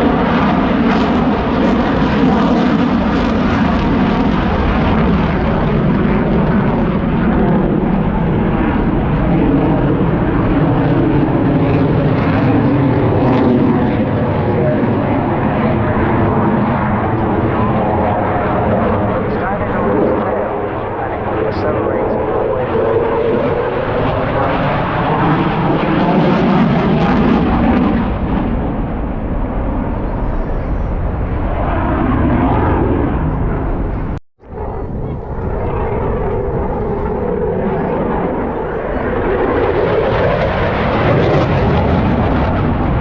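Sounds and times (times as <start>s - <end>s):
jet fighter engine roar: 0.0s - 43.0s.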